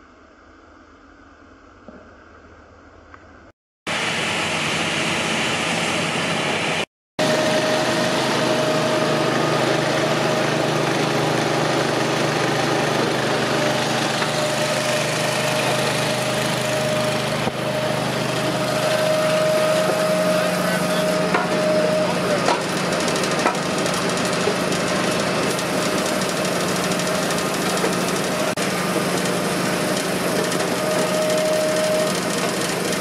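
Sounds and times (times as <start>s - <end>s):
high machine whine: 3.9s - 33.0s
machinery motor hum: 3.9s - 33.0s.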